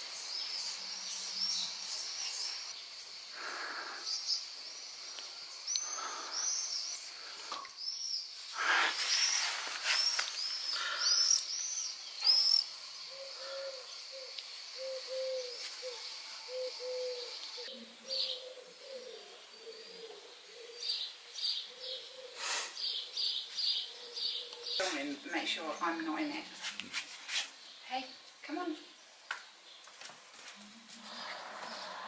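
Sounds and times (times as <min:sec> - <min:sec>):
birds chirping: 0:00.2 - 0:26.5.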